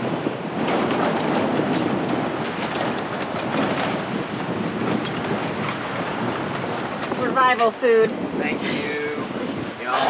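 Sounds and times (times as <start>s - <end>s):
sail flapping and rattling: 0.0s - 10.0s
wind noise: 0.0s - 10.0s.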